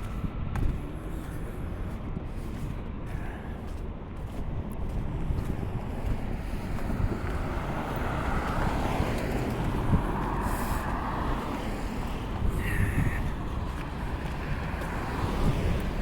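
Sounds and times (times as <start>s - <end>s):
street traffic passing: 0.0s - 16.0s
wind on microphone: 0.0s - 16.0s.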